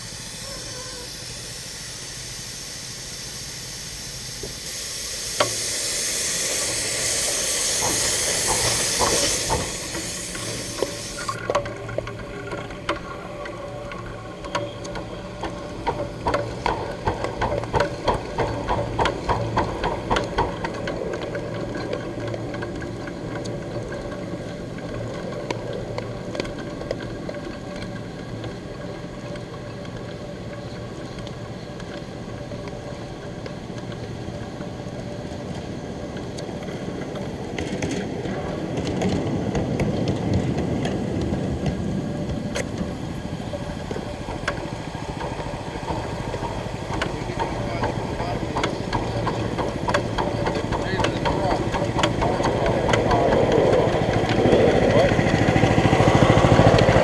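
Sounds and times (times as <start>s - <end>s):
steam locomotive rhythmic beats: 0.0s - 28.2s, 38.3s - 57.0s
steam hissing: 0.0s - 37.4s, 38.3s - 57.0s.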